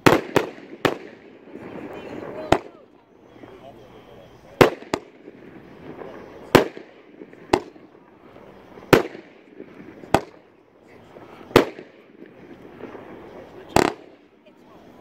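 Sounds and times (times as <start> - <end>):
fireworks shells bursting: 0.0 - 15.0.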